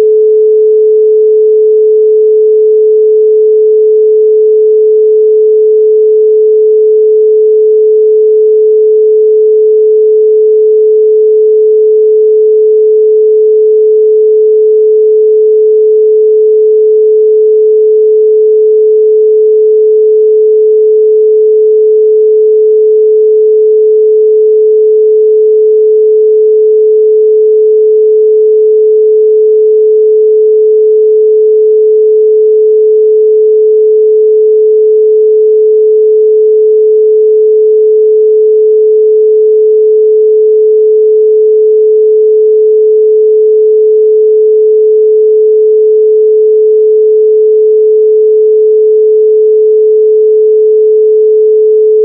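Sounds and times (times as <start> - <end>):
pure sine tone: 0.0 - 52.0.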